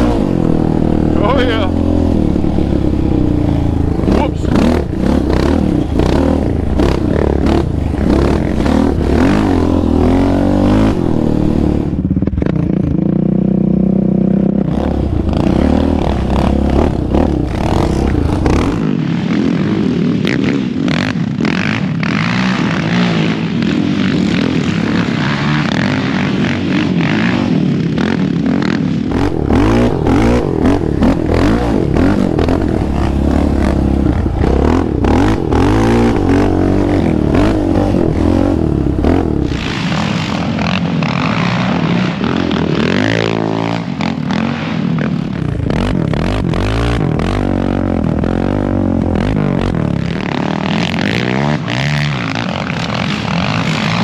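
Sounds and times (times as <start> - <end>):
quad engine revving: 0.0 - 18.9, 20.3 - 54.0
other quads revving: 0.0 - 54.0.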